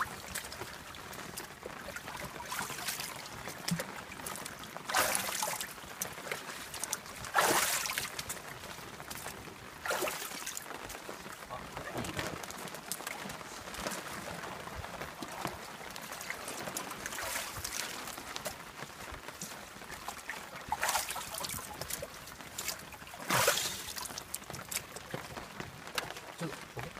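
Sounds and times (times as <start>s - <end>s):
water splashing in plastic tub: 0.0s - 18.8s, 19.4s - 26.9s.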